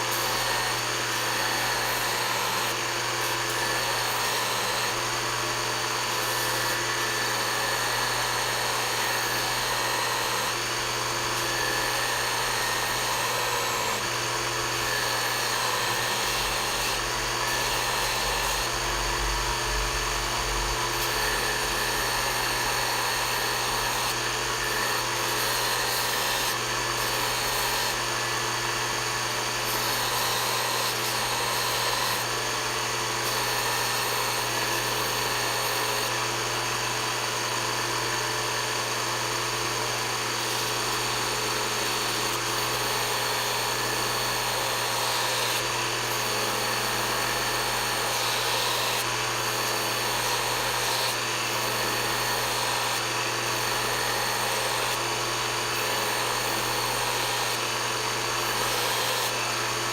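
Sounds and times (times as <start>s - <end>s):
power tool motor humming: 0.0s - 59.9s.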